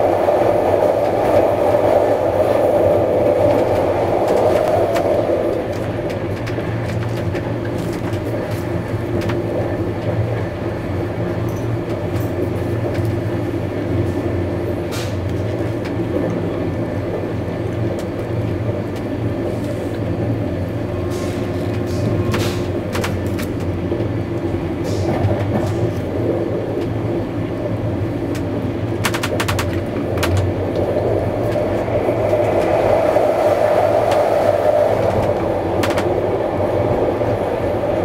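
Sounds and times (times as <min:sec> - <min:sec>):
train wheels rolling on rails: 0:00.0 - 0:38.0.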